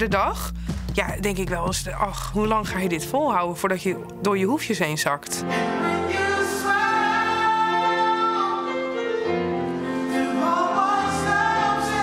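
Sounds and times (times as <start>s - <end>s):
slow music: 0.0s - 12.0s.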